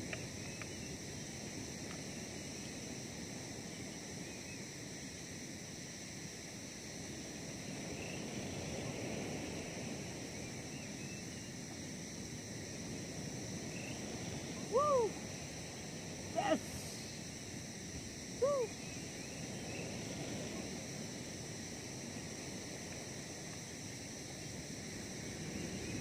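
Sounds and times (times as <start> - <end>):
night insects chirring: 0.0 - 26.0.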